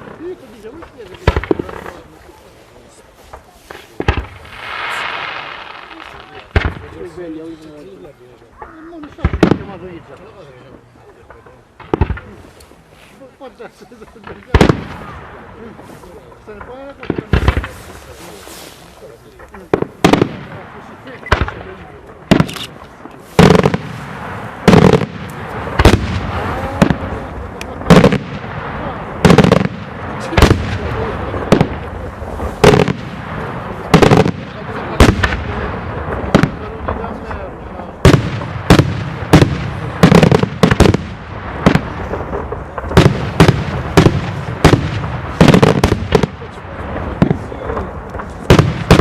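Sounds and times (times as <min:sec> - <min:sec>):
fireworks bangs: 0:00.0 - 0:08.2, 0:08.9 - 0:49.0.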